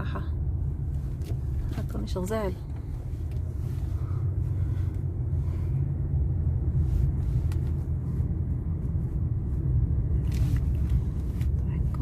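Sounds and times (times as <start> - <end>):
low rumble of motor vehicles: 0.0 - 12.0.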